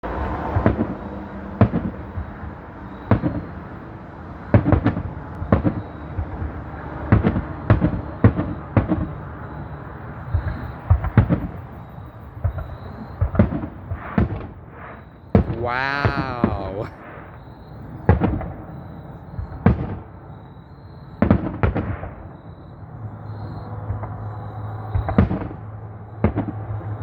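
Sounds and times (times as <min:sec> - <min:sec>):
continuous low rumble: 0:00.0 - 0:27.0
fireworks bangs: 0:00.1 - 0:03.8, 0:04.4 - 0:20.3, 0:21.2 - 0:22.4, 0:23.8 - 0:27.0.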